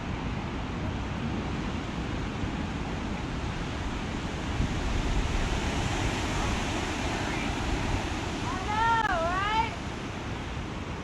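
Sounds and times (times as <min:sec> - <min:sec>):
strong wind blowing on microphone: 0:00.0 - 0:11.0.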